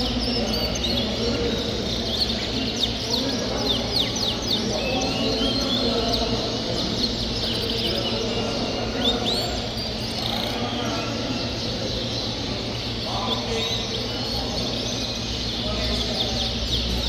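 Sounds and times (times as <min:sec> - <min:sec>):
canaries chirping: 0:00.0 - 0:17.0.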